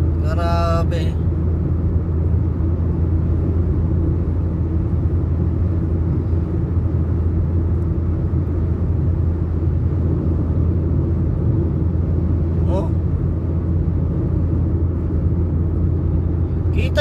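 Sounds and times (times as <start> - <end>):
strong wind on vehicle: 0.0 - 17.0
vehicle engine and road noise: 0.0 - 17.0.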